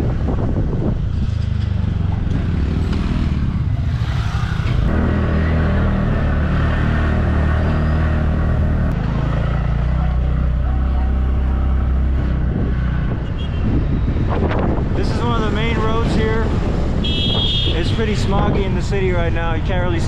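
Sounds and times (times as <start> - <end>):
road and traffic noise: 0.0 - 20.0.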